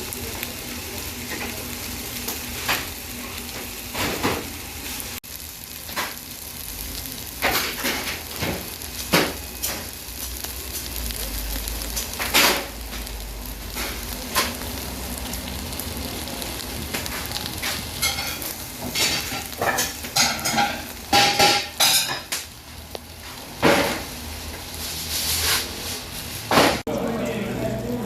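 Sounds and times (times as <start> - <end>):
chicken sizzling on iron griddle: 0.0 - 26.9.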